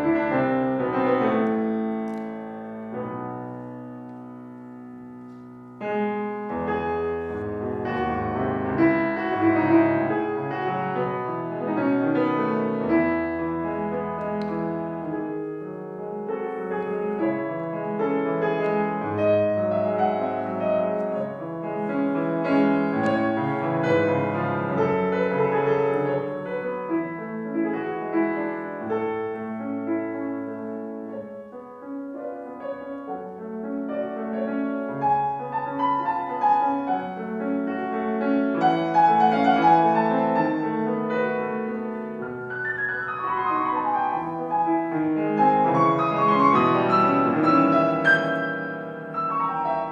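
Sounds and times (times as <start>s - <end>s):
solo piano classical piece: 0.0s - 49.9s.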